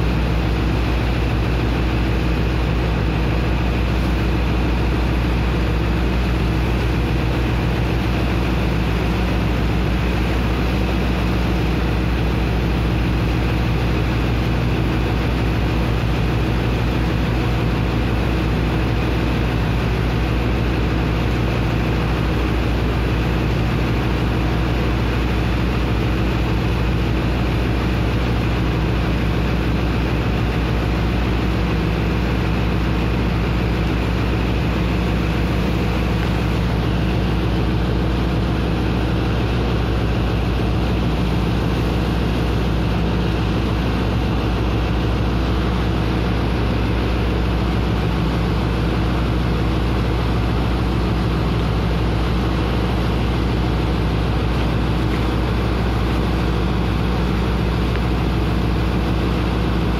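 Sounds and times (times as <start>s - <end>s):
pump engine droning: 0.0s - 59.9s.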